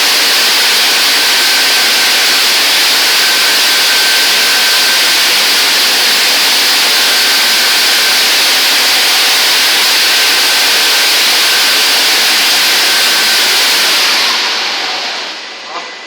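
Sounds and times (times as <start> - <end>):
high-pressure water jets hissing: 0.0 - 15.7.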